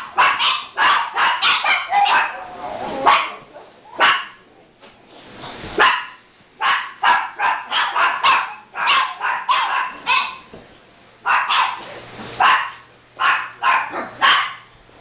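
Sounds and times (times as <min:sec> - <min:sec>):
dogs barking: 0:00.0 - 0:04.4, 0:05.8 - 0:10.5, 0:11.2 - 0:14.7.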